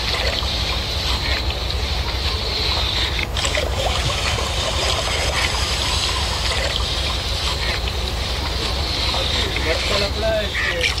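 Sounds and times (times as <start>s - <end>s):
steady low rumble: 0.0s - 11.0s
water splashing along boat hull: 0.0s - 11.0s.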